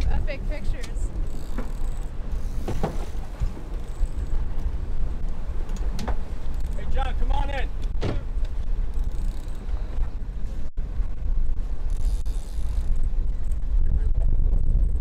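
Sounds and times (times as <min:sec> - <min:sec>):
boat engines running: 0:00.0 - 0:13.9
wind buffeting microphone: 0:00.0 - 0:15.0.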